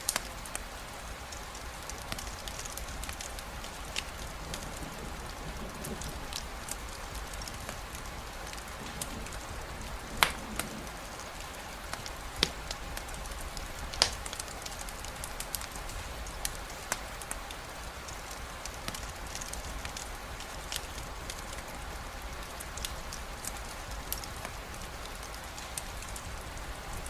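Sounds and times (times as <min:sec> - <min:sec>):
campfire crackling and popping: 0:00.0 - 0:27.0
steady rainfall: 0:00.0 - 0:27.0.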